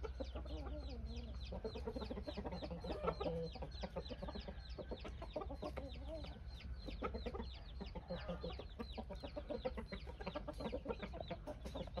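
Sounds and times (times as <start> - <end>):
roosters clucking: 0.0 - 12.0.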